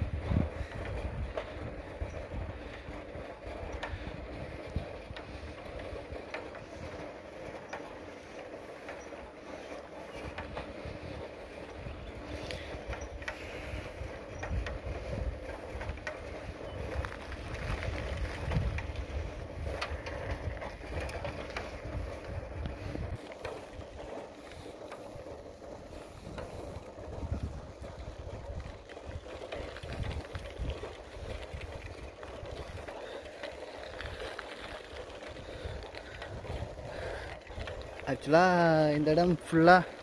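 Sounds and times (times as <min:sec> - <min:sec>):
bicycle tyre noise: 0:00.0 - 0:40.0
wind rumbling on microphone: 0:00.0 - 0:40.0.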